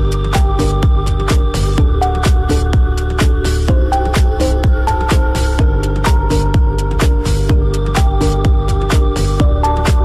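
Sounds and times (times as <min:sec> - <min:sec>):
hi-hats: 0:00.0 - 0:10.0
kick drum: 0:00.0 - 0:10.0.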